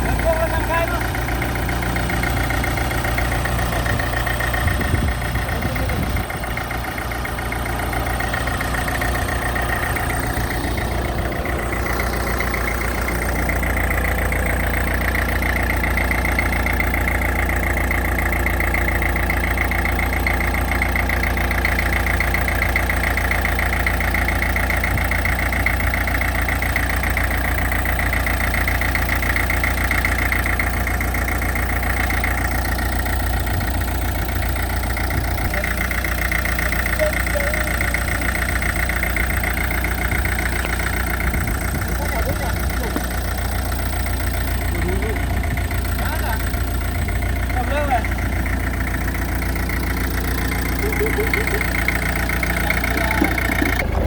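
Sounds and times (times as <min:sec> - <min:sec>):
heavy equipment engine idling: 0:00.0 - 0:54.0.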